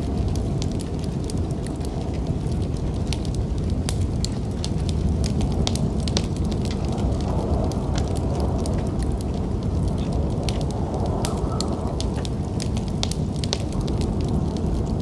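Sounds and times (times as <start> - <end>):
low rumble of storm wind: 0.0 - 15.0
wood fire crackling and popping: 0.0 - 15.0.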